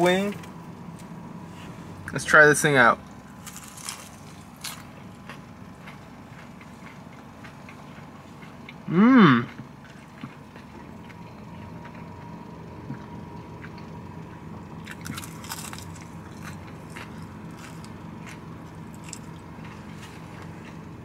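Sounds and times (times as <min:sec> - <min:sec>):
steady low hum: 0:00.0 - 0:21.0
chewing crispy chicken: 0:03.0 - 0:21.0.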